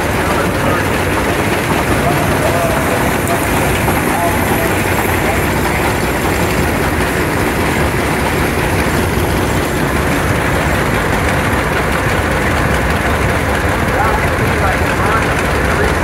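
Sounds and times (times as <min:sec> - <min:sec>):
steam traction engine running: 0:00.0 - 0:16.0
tractor engine running: 0:00.0 - 0:16.0.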